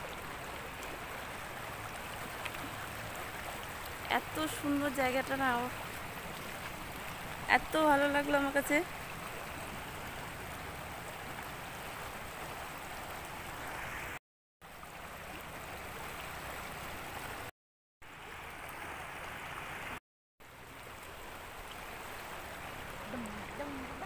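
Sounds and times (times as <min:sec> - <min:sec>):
river water rushing: 0:00.0 - 0:17.5, 0:18.1 - 0:24.0.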